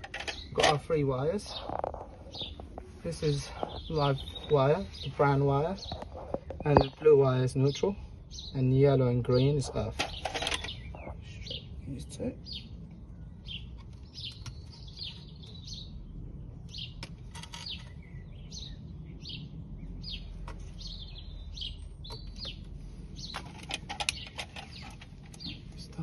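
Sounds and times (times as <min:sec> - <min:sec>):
low background rumble: 0:00.0 - 0:26.0
small birds chirping: 0:00.0 - 0:26.0.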